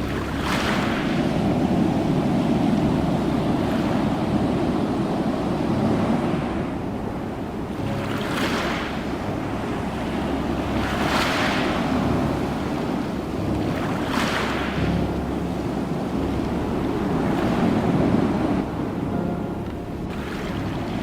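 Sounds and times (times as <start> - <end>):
low rumble of surf: 0.0 - 21.0
waves breaking: 0.0 - 21.0.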